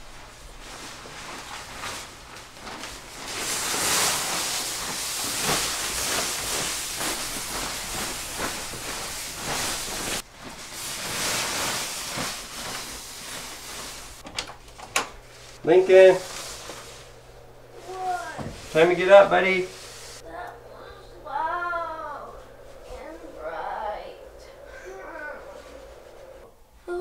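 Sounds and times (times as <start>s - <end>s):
blower fan hissing: 0.0s - 27.0s
nylon costume rustling: 0.0s - 27.0s.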